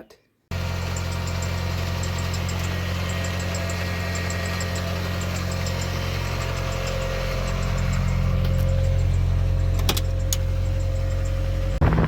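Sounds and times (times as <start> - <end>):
car engine running: 0.5 - 12.0.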